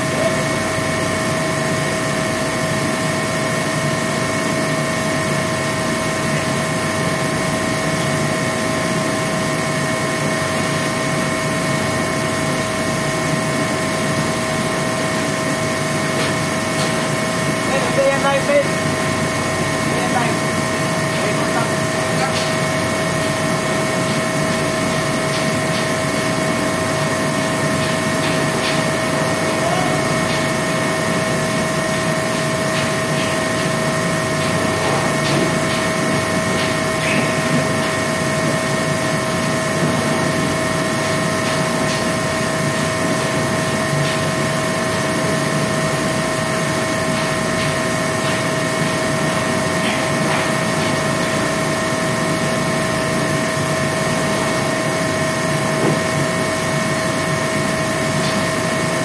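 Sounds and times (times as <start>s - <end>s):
machine humming and whining: 0.0s - 59.0s.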